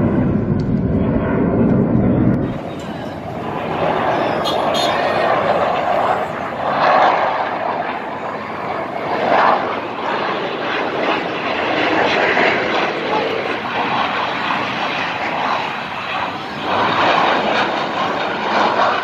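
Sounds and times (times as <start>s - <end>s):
jet aircraft flying past: 0.0s - 19.0s.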